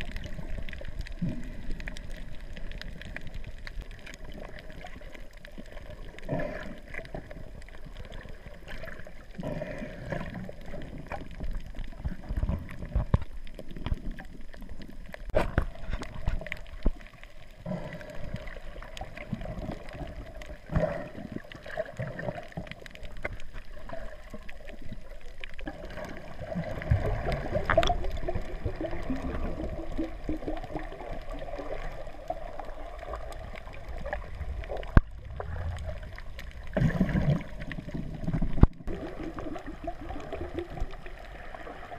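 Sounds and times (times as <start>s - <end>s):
underwater sloshing and gurgling: 0.0s - 41.9s.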